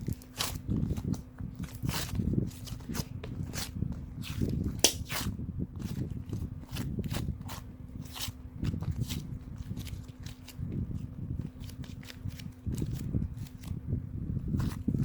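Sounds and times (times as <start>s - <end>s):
hands squishing clay slime: 0.0s - 13.8s
steady low hum: 0.0s - 15.0s.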